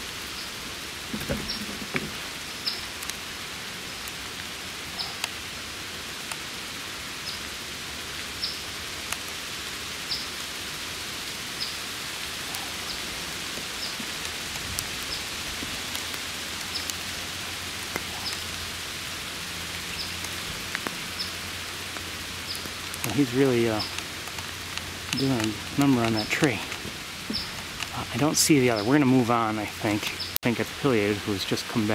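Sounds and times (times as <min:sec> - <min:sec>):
rain falling on leaves: 0:00.0 - 0:31.9.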